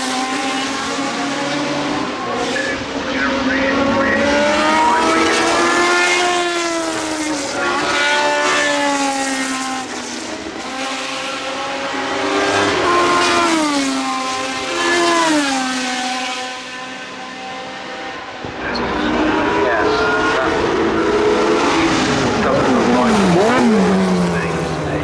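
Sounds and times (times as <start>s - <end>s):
racing car engine at high revs: 0.0s - 25.0s.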